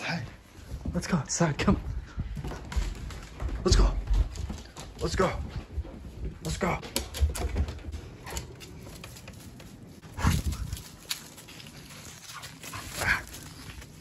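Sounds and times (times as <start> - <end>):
footsteps: 0.0 - 14.0.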